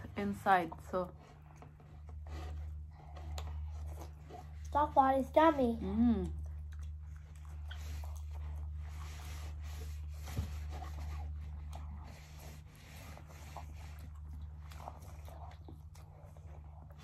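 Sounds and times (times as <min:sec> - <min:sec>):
people chewing food: 0:00.0 - 0:17.0
steady low hum: 0:00.0 - 0:17.0.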